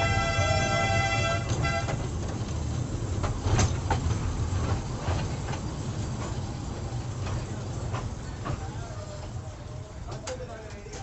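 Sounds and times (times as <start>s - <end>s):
wheels clicking over rail joints: 0.0s - 11.0s.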